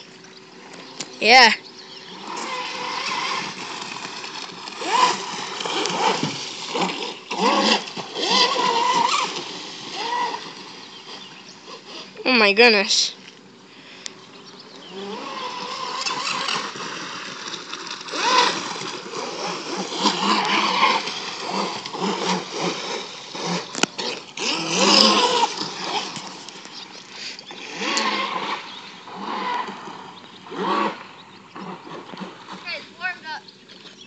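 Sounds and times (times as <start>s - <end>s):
electric motor whining: 0.6s - 12.4s, 13.9s - 17.3s, 18.0s - 32.8s.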